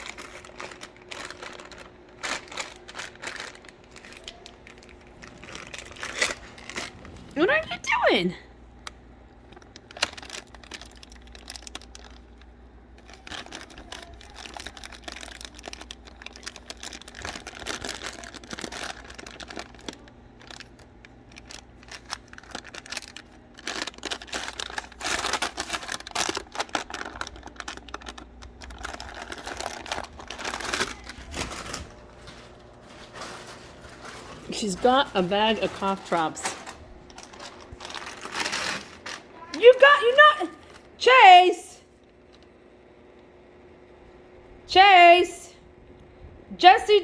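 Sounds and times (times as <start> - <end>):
plastic bag crinkling: 0.0 - 8.1, 8.9 - 41.0.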